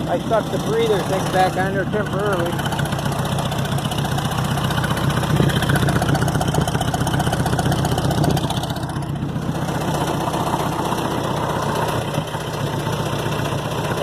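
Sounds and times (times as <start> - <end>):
skid steer engine idling: 0.0 - 14.0.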